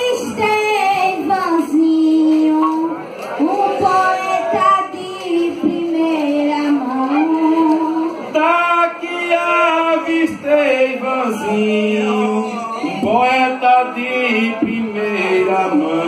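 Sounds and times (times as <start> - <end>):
person chanting through microphone: 1.8 - 16.0.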